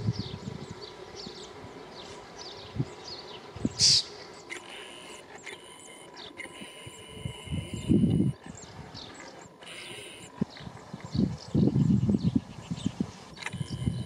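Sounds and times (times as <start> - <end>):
birds peeping: 0.0 - 14.0
faint high whine: 0.0 - 14.0.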